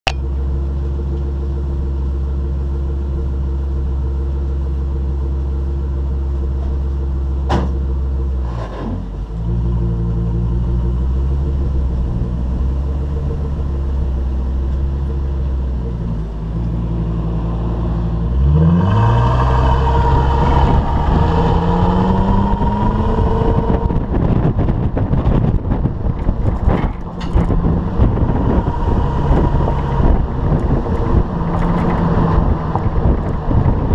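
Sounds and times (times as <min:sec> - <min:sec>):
vehicle engine idling and revving: 0:00.0 - 0:33.9
wind and road noise: 0:06.4 - 0:33.9.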